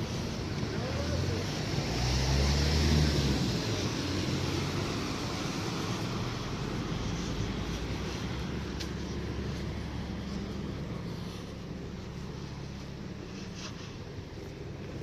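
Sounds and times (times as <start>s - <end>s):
vehicle passing: 0.0s - 12.6s
low street hum: 0.0s - 15.0s.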